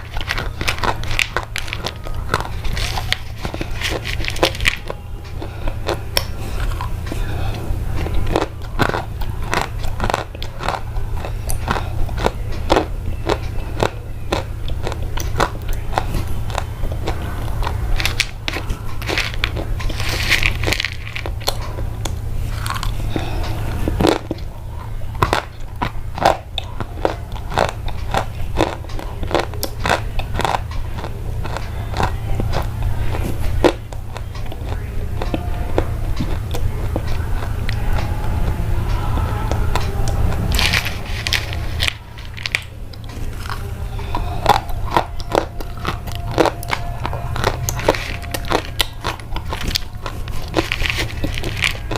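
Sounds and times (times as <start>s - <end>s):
crunchy biting and chewing: 0.0s - 51.9s
steady low hum: 0.0s - 51.9s.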